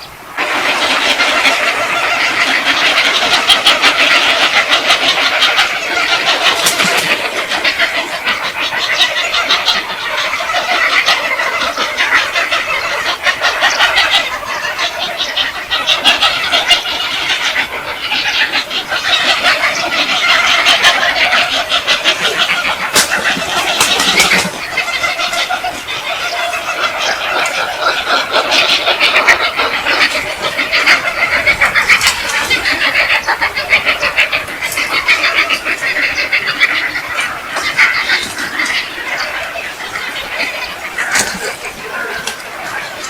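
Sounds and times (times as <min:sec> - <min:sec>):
flock of birds chirping: 0:00.0 - 0:43.0.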